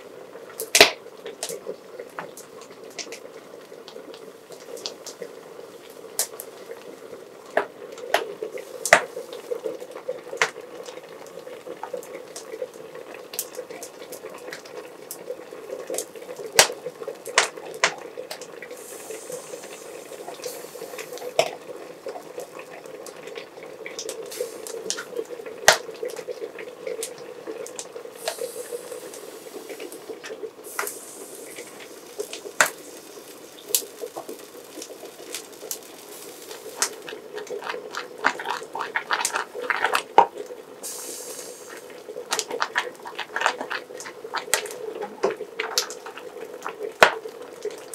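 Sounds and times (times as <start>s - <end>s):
steady background hum: 0.0s - 47.9s.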